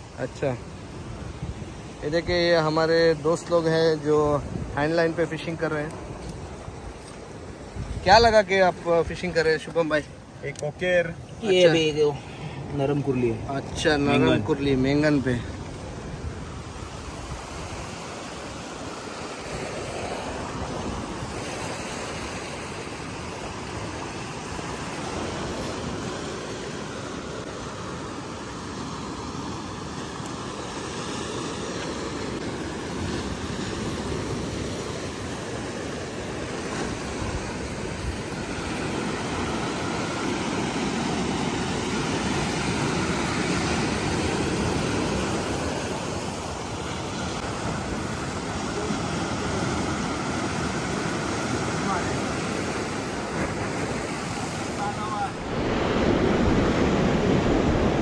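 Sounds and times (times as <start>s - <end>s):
surf breaking on rocky shore: 0.0s - 58.0s.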